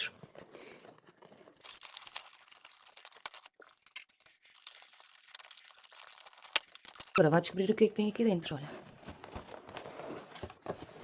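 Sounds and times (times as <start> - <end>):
paper packaging crinkling: 0.2 - 7.8, 8.7 - 11.0.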